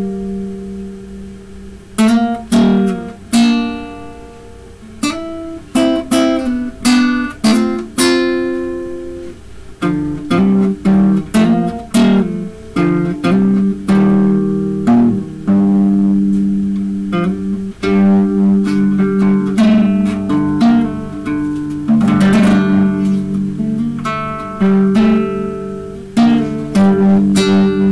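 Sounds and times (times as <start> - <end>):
acoustic guitar plucking: 0.0 - 27.9.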